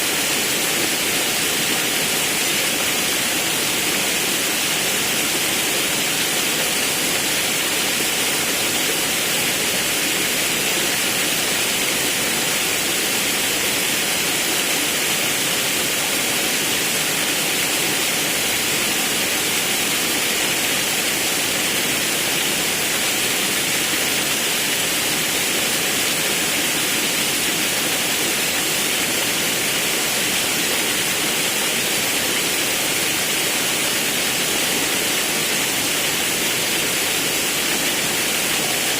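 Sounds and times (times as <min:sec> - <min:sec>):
river and waterfall rushing: 0:00.0 - 0:38.9.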